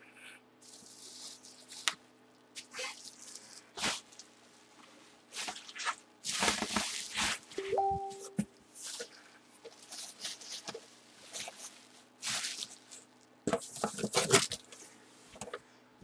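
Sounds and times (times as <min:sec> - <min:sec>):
bubble wrap rustling and crinkling: 0:00.6 - 0:15.4.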